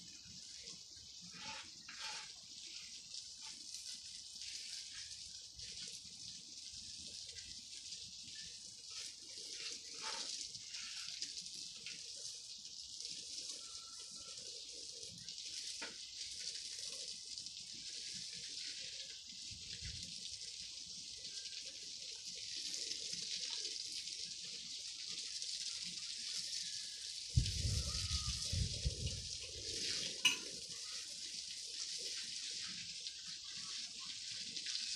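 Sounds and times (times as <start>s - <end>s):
garden hose spraying water: 0.0s - 34.9s.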